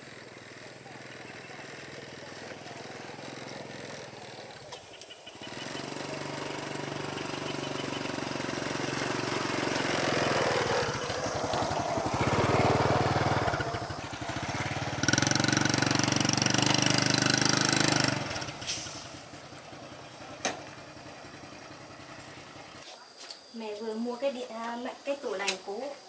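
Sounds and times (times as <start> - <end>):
small vehicle engine running: 0.0 - 22.8.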